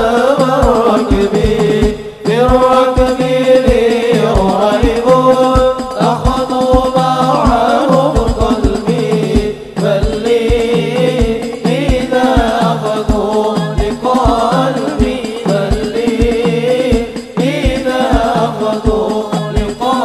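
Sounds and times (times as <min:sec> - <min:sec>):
low drum beat: 0:00.0 - 0:20.0
men chanting through microphones: 0:00.0 - 0:20.0.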